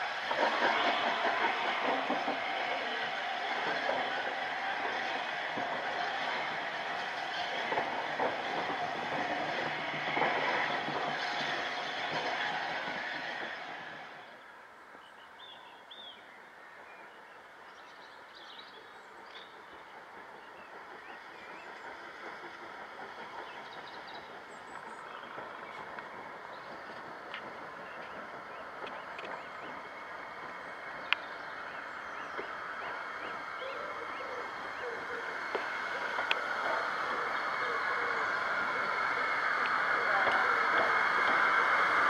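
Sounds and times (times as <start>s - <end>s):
train carriages rushing past: 0.0s - 15.0s, 18.6s - 42.0s
steam engine drifting slowly: 0.0s - 42.0s.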